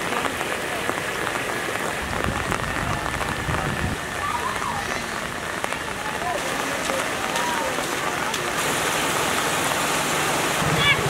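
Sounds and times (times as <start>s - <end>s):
rain falling on water: 0.0s - 11.0s.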